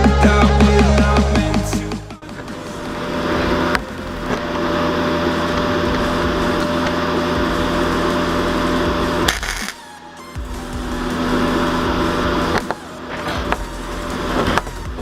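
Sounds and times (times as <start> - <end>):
power tool whining and grinding: 2.4 - 15.0.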